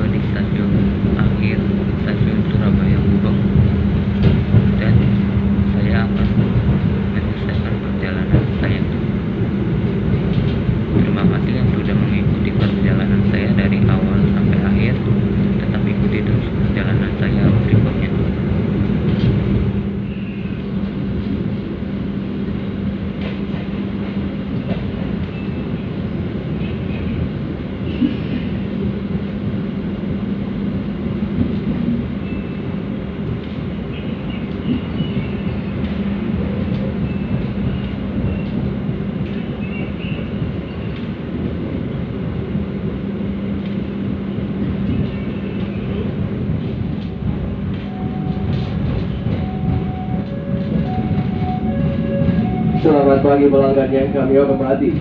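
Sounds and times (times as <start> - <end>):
low hum: 0.0 - 55.0
train running rumble: 0.0 - 55.0.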